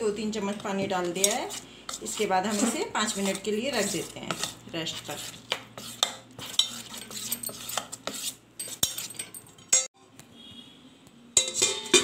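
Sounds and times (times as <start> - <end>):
metal spoon stirring batter in bowl: 0.0 - 9.9.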